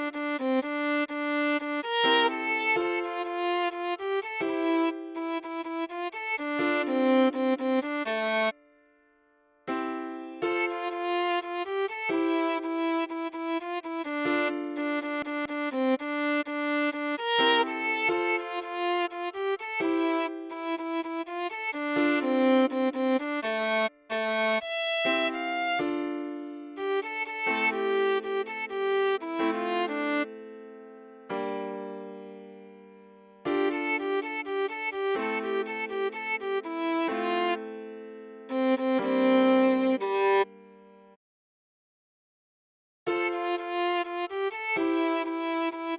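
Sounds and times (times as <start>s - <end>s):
viola melody: 0.0s - 8.7s, 10.4s - 30.6s, 33.5s - 37.8s, 38.5s - 40.7s, 43.1s - 45.9s.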